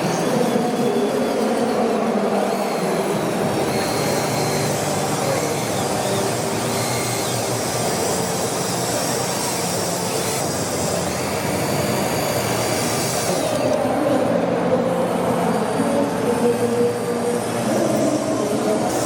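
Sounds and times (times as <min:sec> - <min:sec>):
small electric motors whirring: 0:00.0 - 0:19.0.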